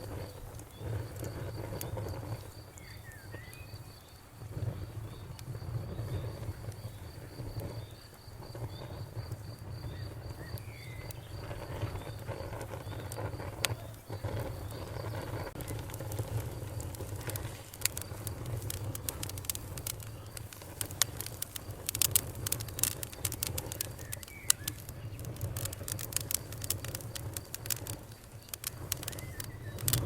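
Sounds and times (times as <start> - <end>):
campfire crackling and popping: 0.0 - 30.0
cricket chirping: 0.0 - 30.0.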